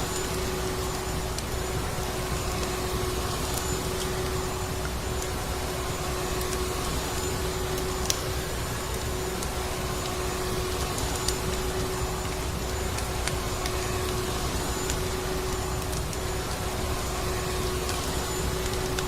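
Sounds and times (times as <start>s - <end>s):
vacuum cleaner motor running: 0.0s - 19.0s.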